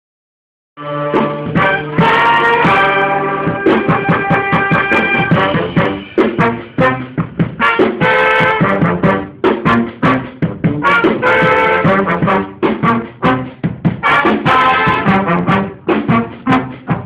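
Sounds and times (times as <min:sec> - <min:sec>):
brass band playing: 0:00.8 - 0:17.0.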